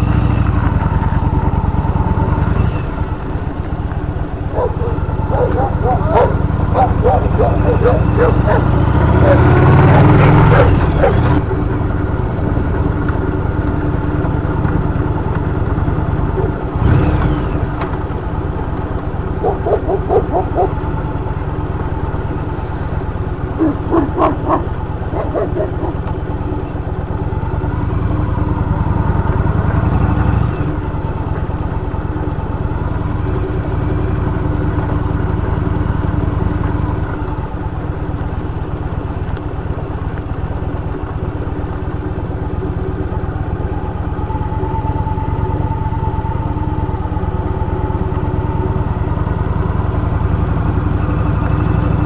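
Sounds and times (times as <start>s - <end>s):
vehicle engine running: 0.0s - 52.0s
wind and road rumble: 0.0s - 52.0s.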